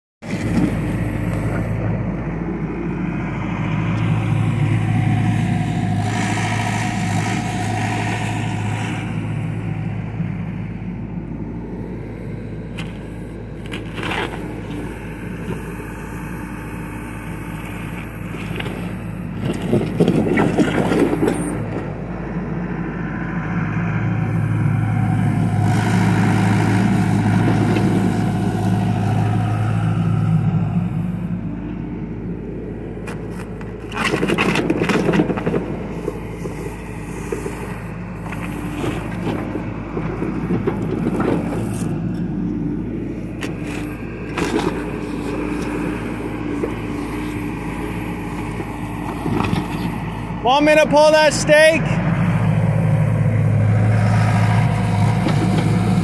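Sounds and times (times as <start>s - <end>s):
excavator diesel engine: 0.2s - 56.0s.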